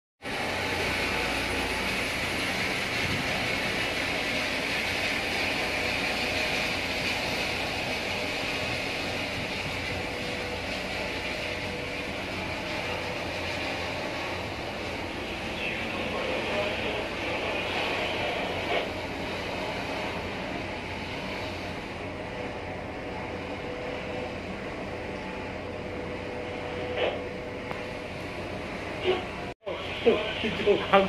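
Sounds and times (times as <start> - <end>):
helicopter flying close: 0.2 - 31.0
low hum: 0.2 - 31.0.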